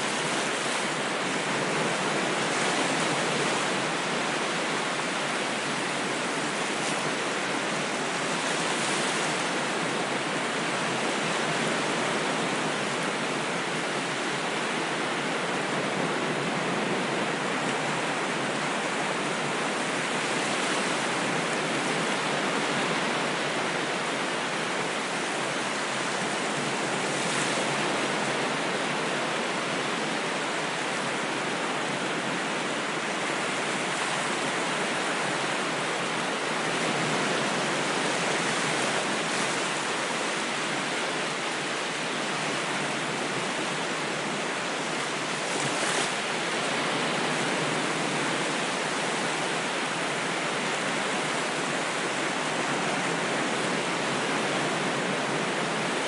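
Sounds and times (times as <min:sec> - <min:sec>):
ocean surf rushing: 0:00.0 - 0:56.0.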